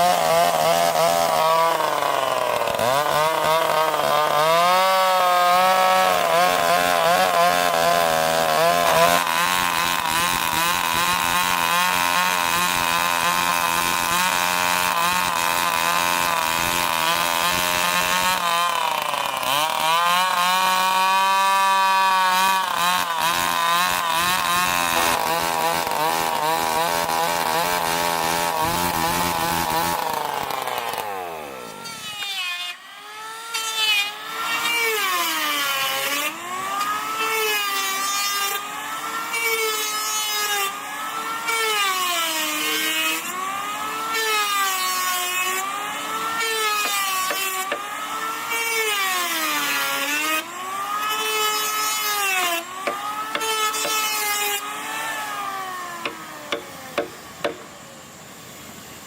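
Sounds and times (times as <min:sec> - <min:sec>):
power tool motor winding down: 0:00.0 - 0:58.1
power tool whining cutting wood: 0:00.0 - 0:59.0.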